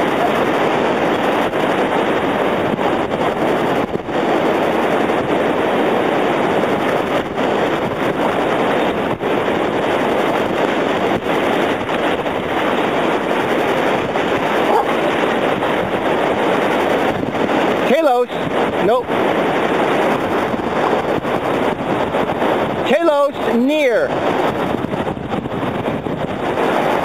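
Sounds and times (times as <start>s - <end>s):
surf rushing: 0.0s - 27.0s
wind: 0.0s - 27.0s.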